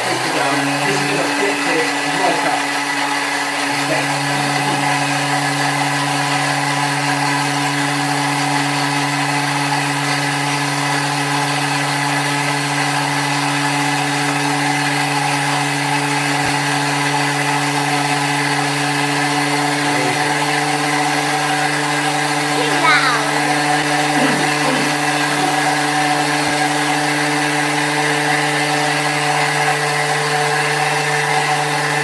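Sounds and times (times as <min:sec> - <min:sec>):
food processor motor whirring: 0:00.0 - 0:32.0.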